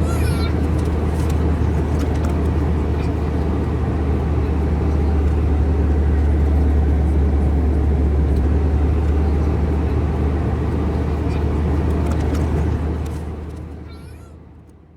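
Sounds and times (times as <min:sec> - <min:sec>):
vehicle engine rumbling: 0:00.0 - 0:14.9.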